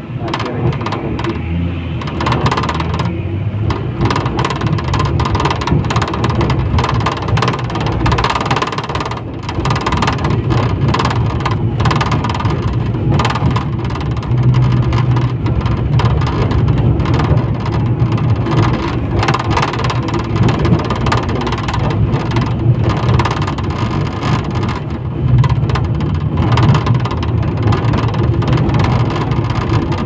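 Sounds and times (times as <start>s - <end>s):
tram wheels rumbling on rails: 0.0s - 30.0s
knocks and rattles: 0.2s - 30.0s.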